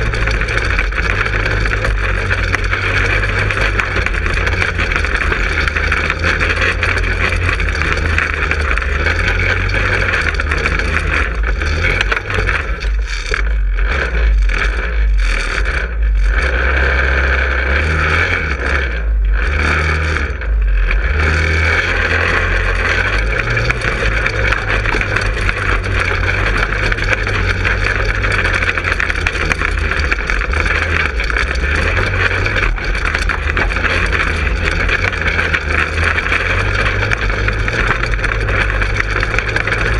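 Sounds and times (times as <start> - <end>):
go-kart engine running: 0.0 - 39.9
kart driving over leaves: 0.0 - 39.9.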